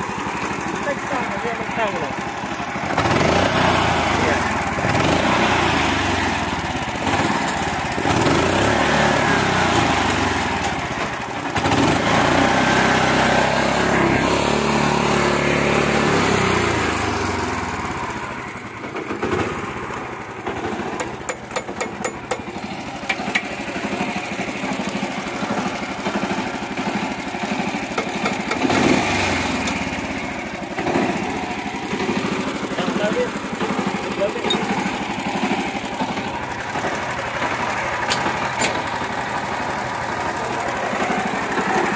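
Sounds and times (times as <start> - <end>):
small tractor engine running: 0.0 - 41.9.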